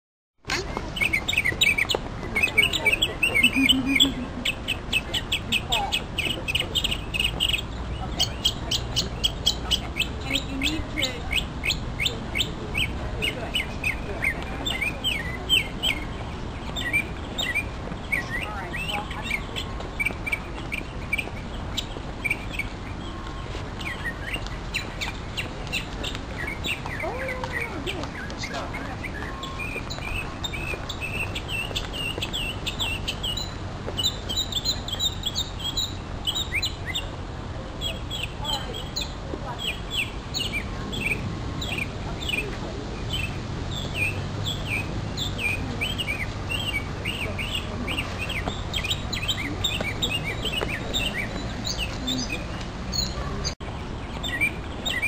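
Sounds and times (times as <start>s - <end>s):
songbird singing: 0.4s - 55.0s.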